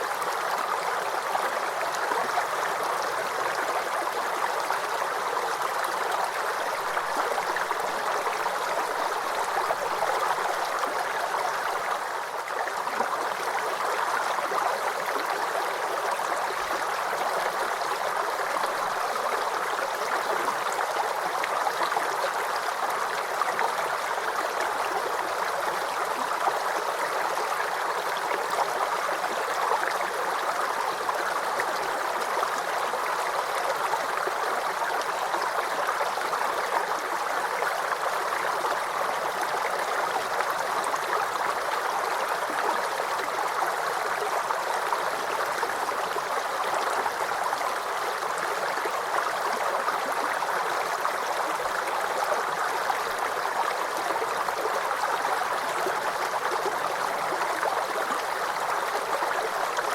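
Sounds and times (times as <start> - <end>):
stream gurgling over stones: 0.0 - 59.9.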